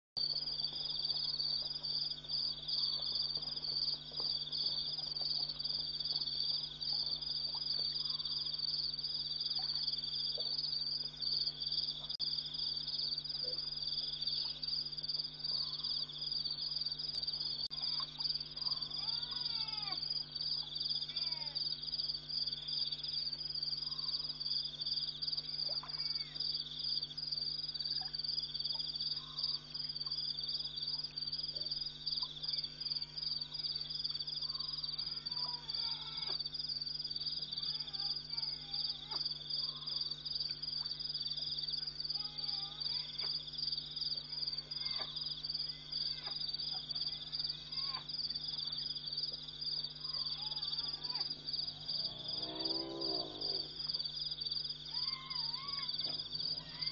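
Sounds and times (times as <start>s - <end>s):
insects trilling: 0.2s - 56.9s.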